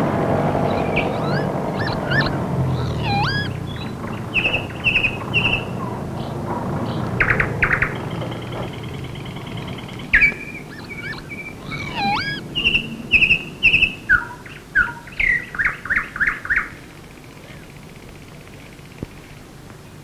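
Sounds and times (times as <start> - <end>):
songbird singing: 0.0 - 20.0
steady low hiss: 0.0 - 20.0.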